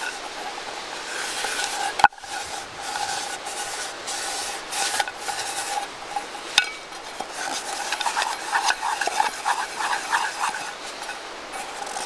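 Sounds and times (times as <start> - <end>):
moss scrubbing a metal pot: 0.0 - 12.0.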